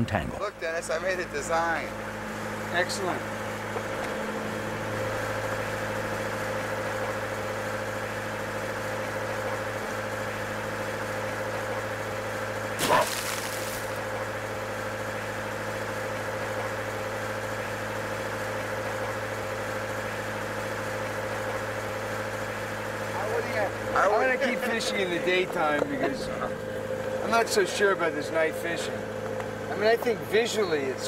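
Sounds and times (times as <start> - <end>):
boat engine idling: 0.0 - 31.0.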